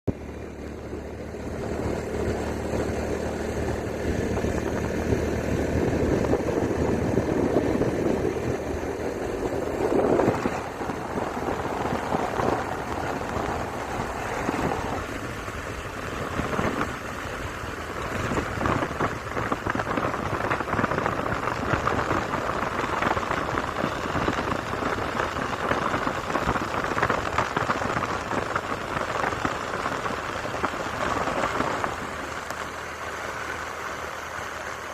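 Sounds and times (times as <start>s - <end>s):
vehicle engine hum: 0.0s - 34.9s
tyres hissing on wet road: 1.6s - 34.9s.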